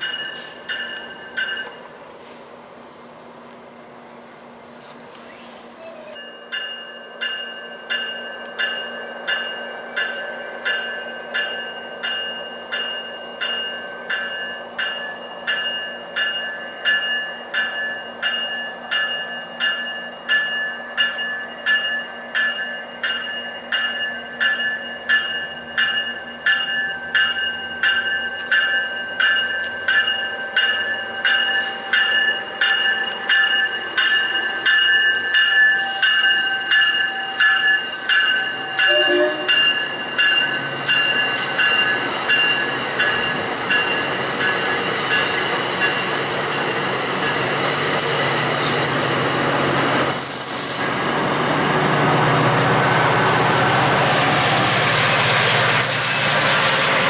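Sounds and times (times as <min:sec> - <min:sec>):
train warning bell ringing: 0:00.0 - 0:03.9, 0:05.8 - 0:49.2
low hum of train: 0:00.0 - 0:57.0.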